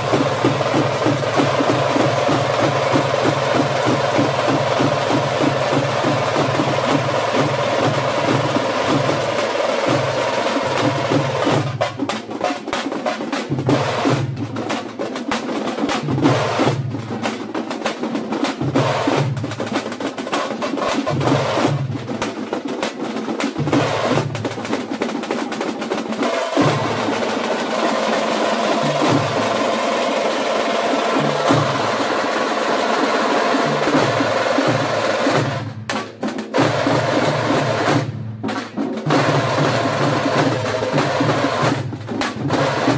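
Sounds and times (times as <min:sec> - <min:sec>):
drum ensemble playing: 0:00.0 - 0:42.9.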